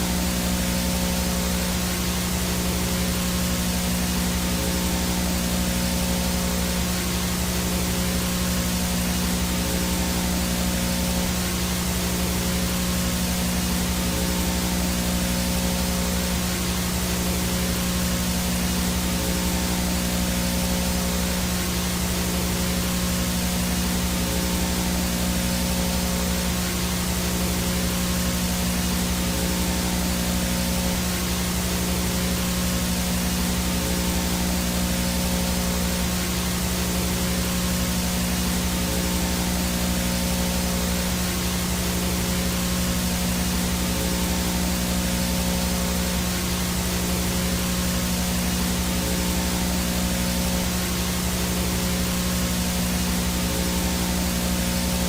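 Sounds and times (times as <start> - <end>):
white noise static hiss: 0.0 - 55.0.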